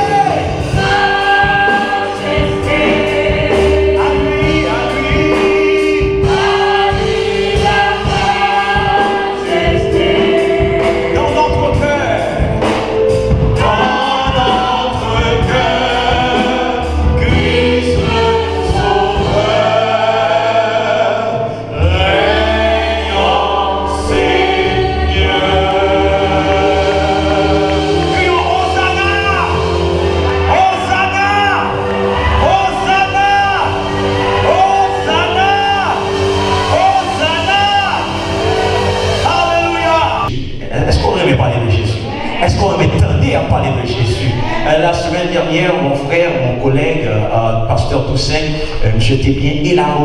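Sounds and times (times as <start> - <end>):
instrumental accompaniment with beat: 0.0 - 40.4
gospel choir singing: 0.0 - 50.0.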